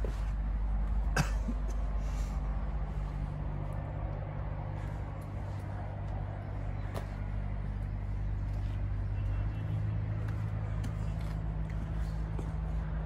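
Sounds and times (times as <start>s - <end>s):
diesel lorry engine idling: 0.0s - 13.0s.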